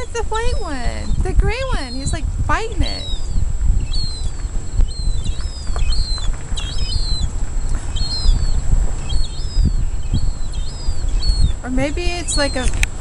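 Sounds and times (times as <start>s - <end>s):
seagulls calling: 0.0s - 12.8s
steady low rumble: 0.0s - 13.0s.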